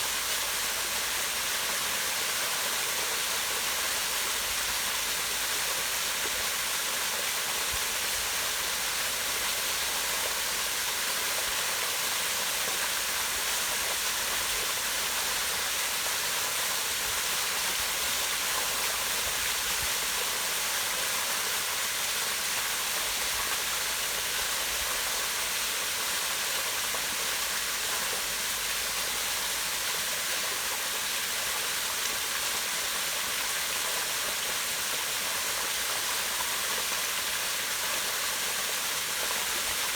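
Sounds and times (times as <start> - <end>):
waterfall rushing into pond: 0.0 - 39.9.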